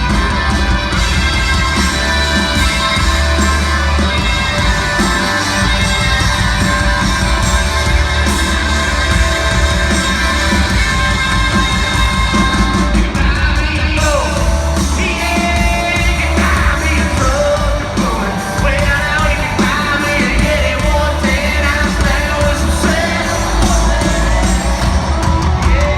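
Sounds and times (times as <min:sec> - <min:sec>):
bass and drums: 0:00.0 - 0:25.9
live country-rock band: 0:00.0 - 0:25.9.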